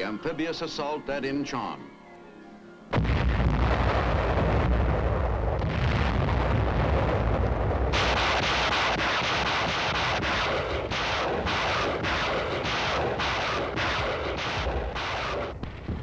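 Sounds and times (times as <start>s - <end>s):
artillery and explosions rumble: 2.9s - 16.0s.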